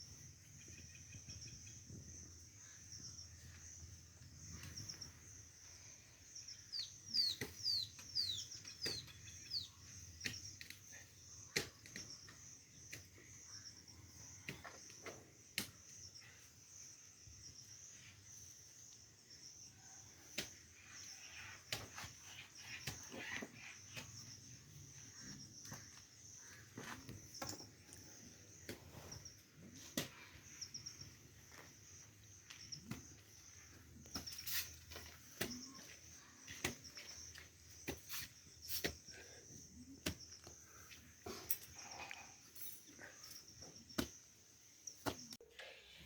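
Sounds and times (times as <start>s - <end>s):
insects chirring: 0.0s - 45.8s.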